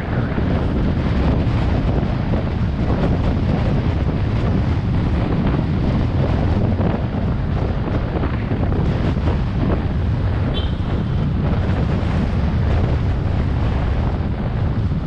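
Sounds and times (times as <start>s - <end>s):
vehicle tyres rumbling on road: 0.0s - 15.0s
wind buffeting microphone: 0.0s - 15.0s.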